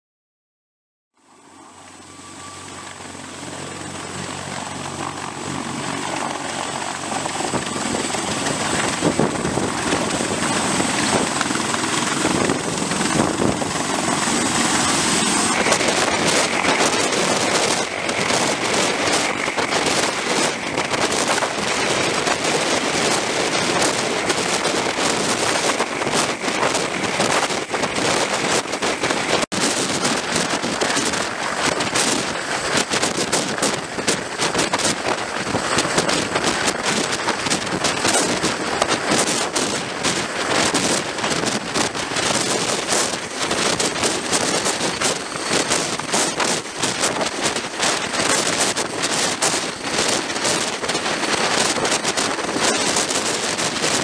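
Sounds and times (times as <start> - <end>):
helicopter hovering overhead: 1.2 - 54.0
thin high whine: 1.2 - 54.0.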